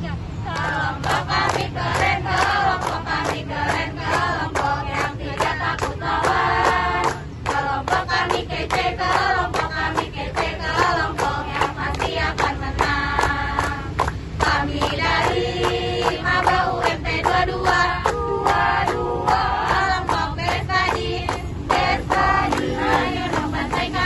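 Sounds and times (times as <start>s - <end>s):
group chanting and singing: 0.3s - 24.0s
rhythmic clapping: 0.4s - 24.0s.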